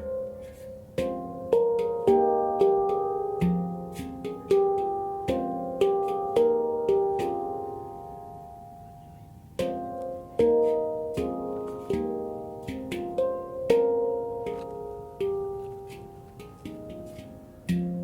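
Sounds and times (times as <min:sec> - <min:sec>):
handpan melody: 0:00.0 - 0:18.0.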